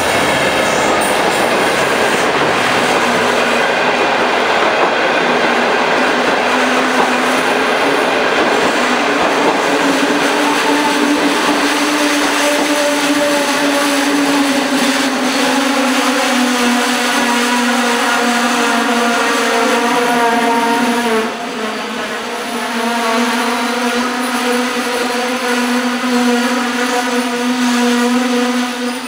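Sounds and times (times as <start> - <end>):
multi-tone train whine: 0.0 - 29.0
passenger train rolling past: 0.0 - 29.0.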